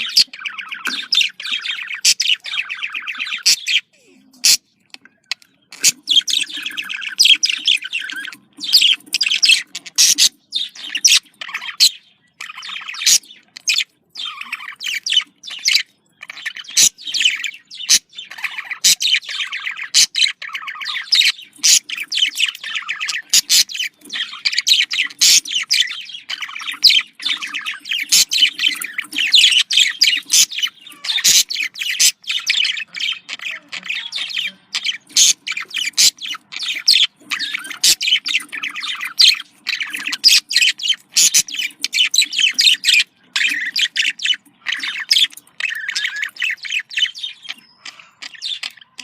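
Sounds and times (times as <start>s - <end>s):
budgerigar chattering and warbling: 0.0s - 49.0s.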